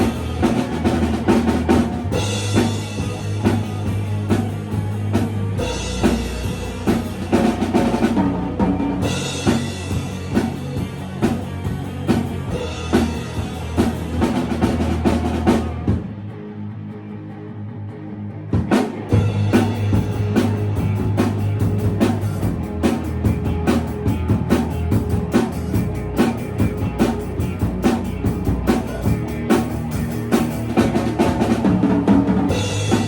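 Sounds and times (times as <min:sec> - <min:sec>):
band playing a song: 0:00.0 - 0:16.1, 0:18.6 - 0:33.0
drum kit kick and snare: 0:00.0 - 0:16.1, 0:18.6 - 0:33.0
sustained bass notes: 0:00.0 - 0:18.4, 0:19.1 - 0:33.0.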